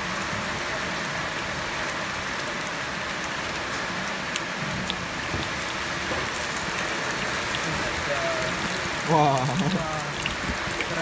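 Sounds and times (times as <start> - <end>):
batter sizzling in oil: 1.4 - 11.0.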